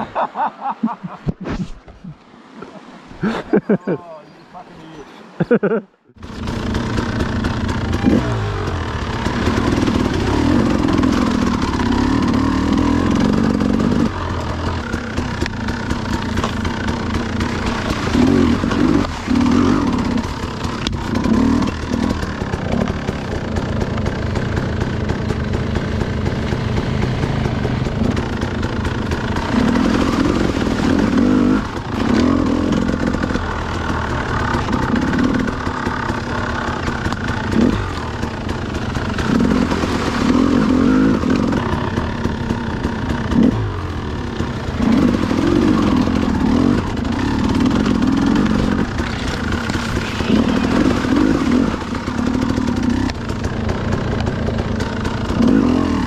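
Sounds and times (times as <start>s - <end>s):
dirt bike engine revving: 6.2s - 56.0s.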